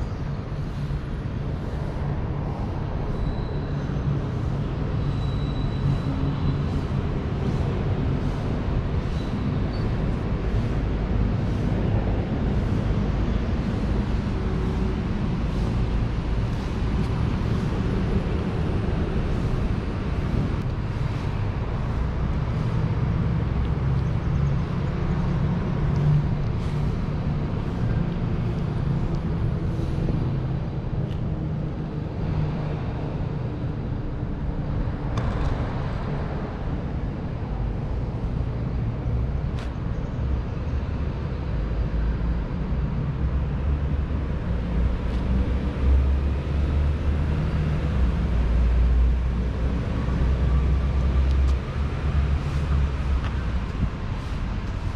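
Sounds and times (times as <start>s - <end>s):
road traffic rumble: 0.0s - 54.9s.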